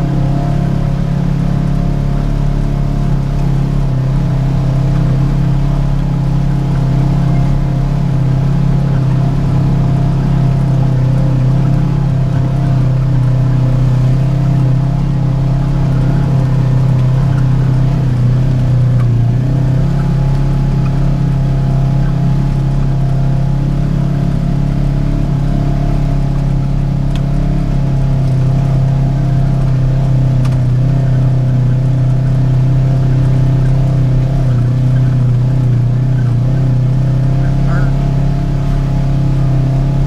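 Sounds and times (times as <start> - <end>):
vehicle engine humming: 0.0 - 40.0.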